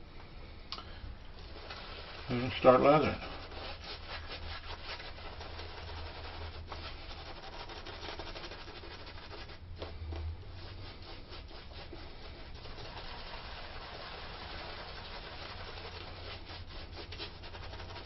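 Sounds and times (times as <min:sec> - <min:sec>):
shaving brush scrubbing lather: 0:01.4 - 0:09.6, 0:10.6 - 0:18.0.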